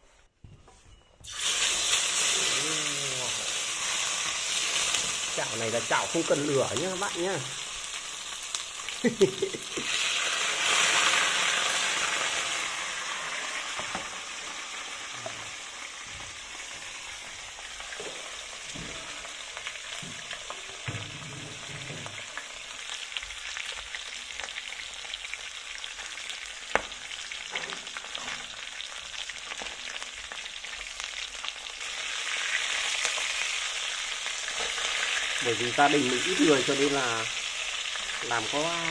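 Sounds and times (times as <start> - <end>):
fish sizzling in hot oil: 1.2 - 38.9.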